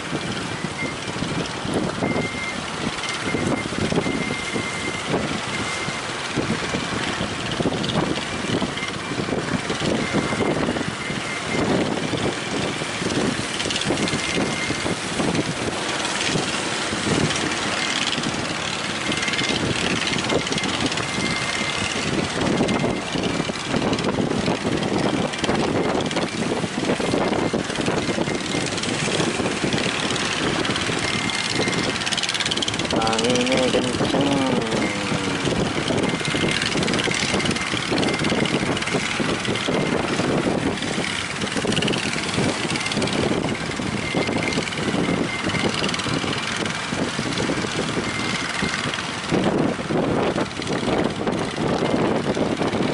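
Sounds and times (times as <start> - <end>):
waves breaking: 0.0 - 45.4
strong wind gusts on microphone: 0.0 - 52.9.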